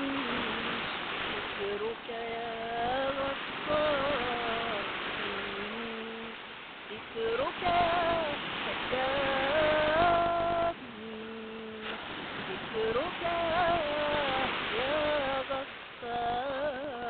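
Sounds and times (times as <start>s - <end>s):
person humming a chant melody: 0.0s - 0.9s, 1.6s - 11.9s, 12.5s - 17.0s.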